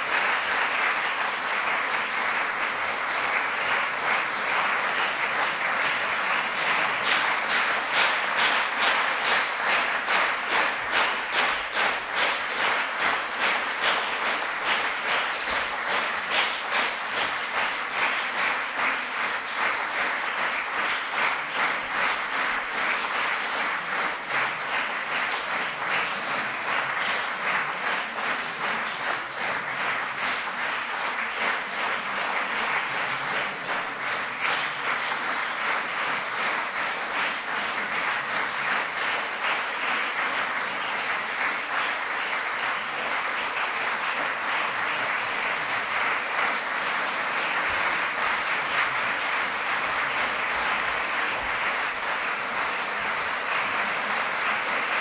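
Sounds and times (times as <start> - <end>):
audience applauding: 0.0 - 55.0
rhythmic clapping in unison: 0.0 - 55.0.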